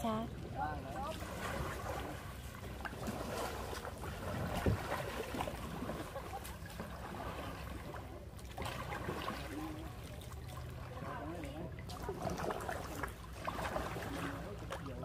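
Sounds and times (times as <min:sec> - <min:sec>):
kayak paddles splashing: 0:00.0 - 0:15.0
water trickling and sloshing: 0:00.0 - 0:15.0.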